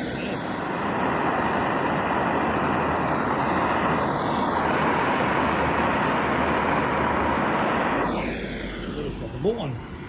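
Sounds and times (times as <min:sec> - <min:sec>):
torch flame roaring: 0:00.0 - 0:10.0.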